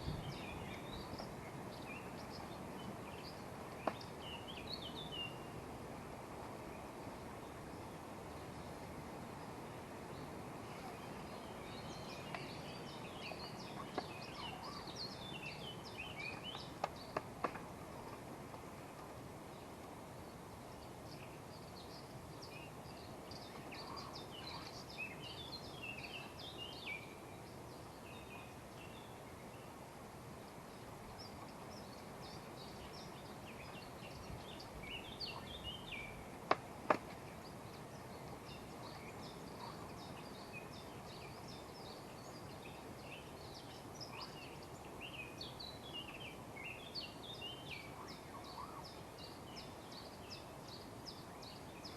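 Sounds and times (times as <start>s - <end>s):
background hiss: 0.0s - 51.9s
small birds chirping: 0.0s - 51.9s.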